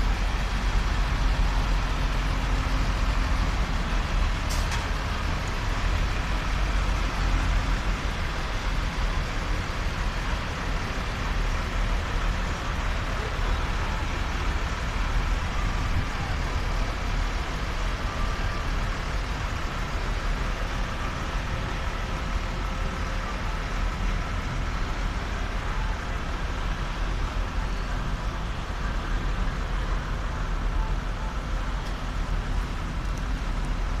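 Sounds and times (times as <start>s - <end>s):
tyre noise on wet street: 0.0s - 34.0s.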